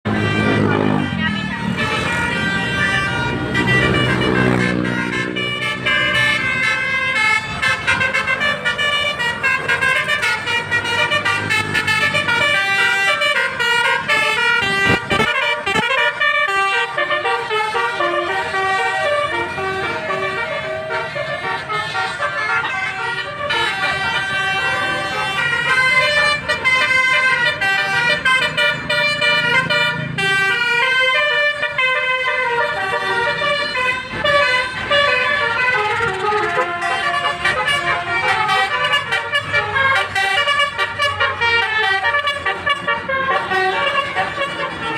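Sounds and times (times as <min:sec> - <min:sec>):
musical air horns tooting melodies: 0:00.1 - 0:44.9.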